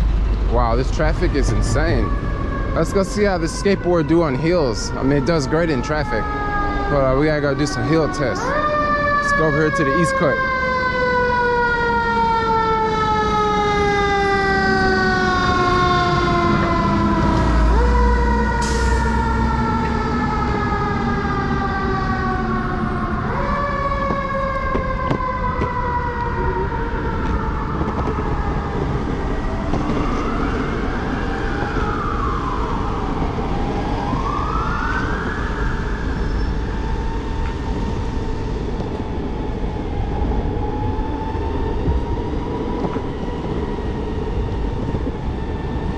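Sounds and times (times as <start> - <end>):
emergency siren wailing: 0.0 - 45.9
street noise: 0.0 - 45.9.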